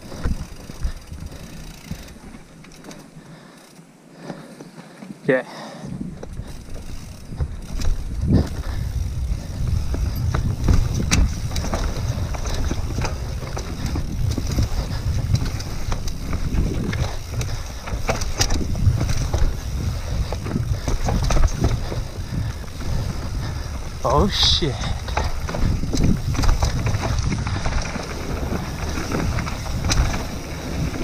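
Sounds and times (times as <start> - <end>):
bike rattling over bumps: 0.0 - 31.0
tyres rumbling on dirt: 6.2 - 31.0.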